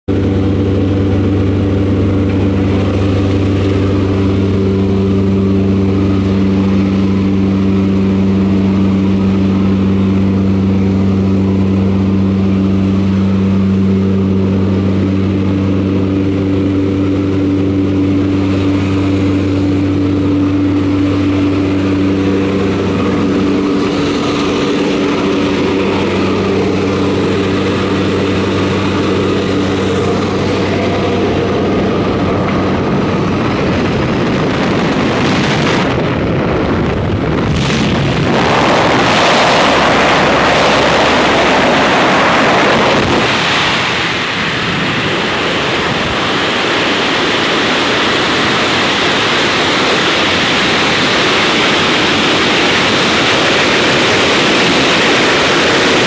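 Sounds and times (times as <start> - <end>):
propeller engines droning in cabin: 0.0 - 56.0
air rushing through open door: 0.2 - 56.0.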